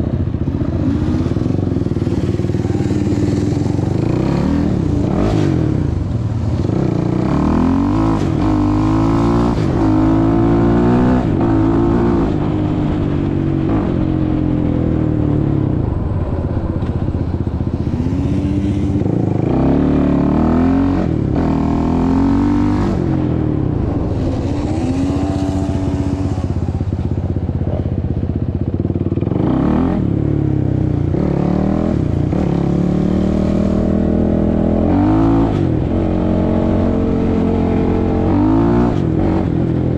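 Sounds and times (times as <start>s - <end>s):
quad engine revving: 0.5s - 27.2s, 29.2s - 39.9s.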